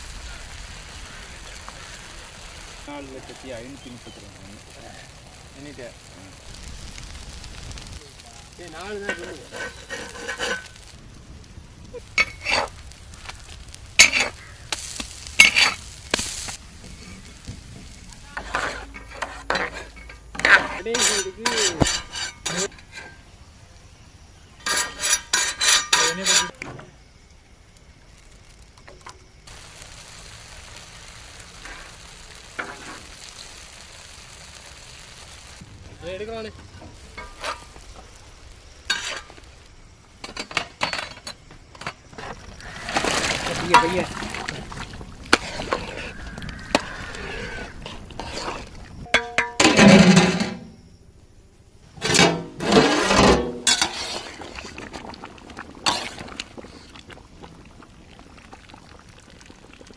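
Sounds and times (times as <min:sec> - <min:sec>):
eggs sizzling in a pan: 0:00.0 - 0:59.9.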